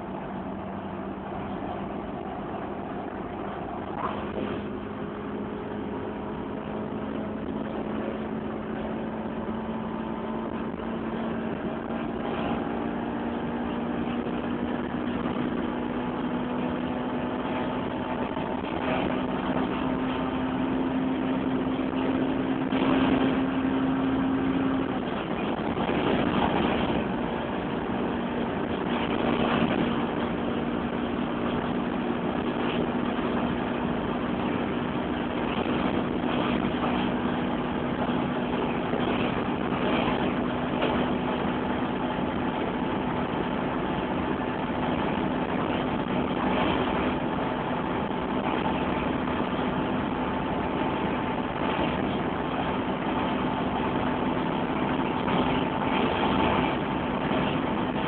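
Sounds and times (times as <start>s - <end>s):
car engine at high revs: 0.0s - 58.0s
wind and road noise: 0.0s - 58.0s.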